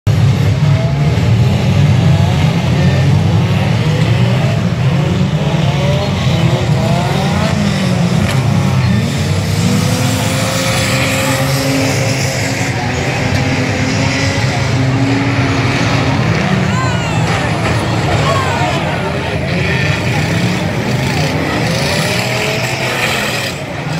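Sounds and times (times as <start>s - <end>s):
racing car engines revving: 0.1s - 23.9s.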